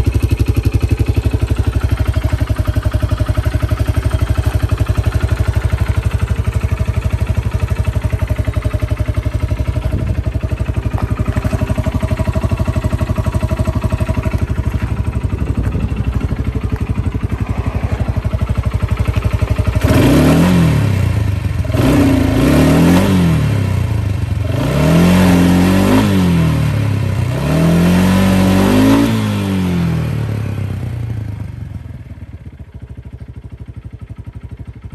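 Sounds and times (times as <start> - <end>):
atv engine idling and revving: 0.0 - 34.9.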